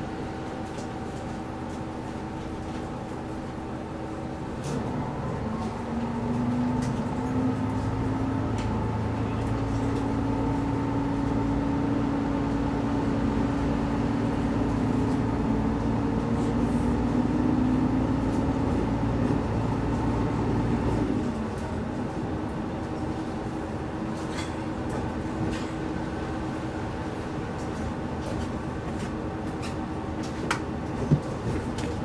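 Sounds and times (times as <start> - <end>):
diesel railcar engine drone: 0.0 - 32.0.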